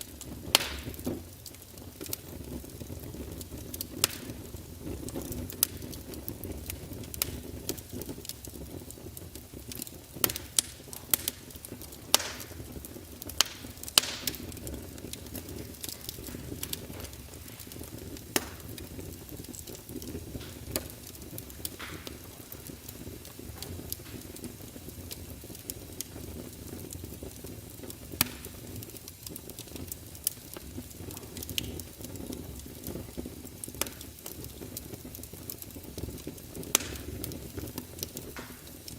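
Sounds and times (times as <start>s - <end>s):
fire crackling in fireplace: 0.0s - 38.9s.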